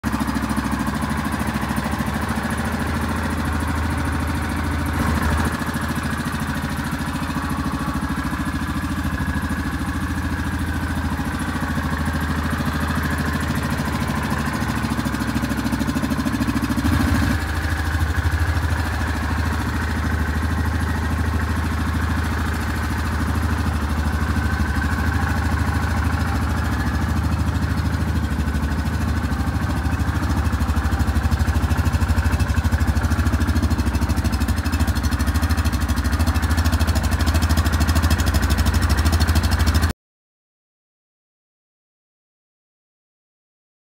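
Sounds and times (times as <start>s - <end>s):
quad bike engine idling: 0.0s - 39.9s.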